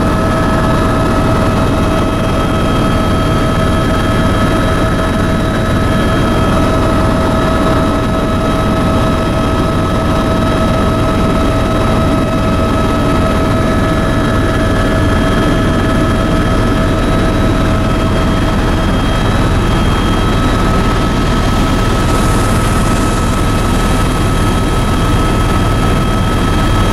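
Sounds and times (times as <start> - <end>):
constant high whine: 0.0 - 26.9
helicopter rotor and engine drone: 0.0 - 26.9.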